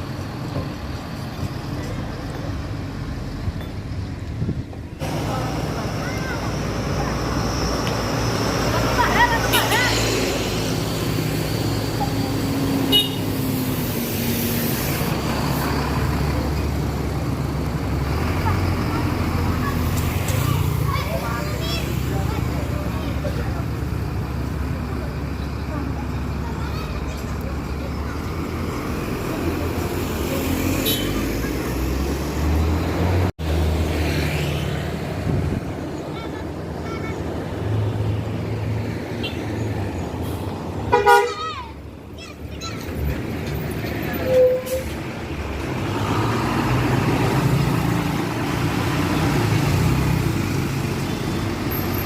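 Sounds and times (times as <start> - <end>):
bus engine running: 0.0 - 34.0, 34.7 - 52.0
road and traffic noise: 0.0 - 52.0.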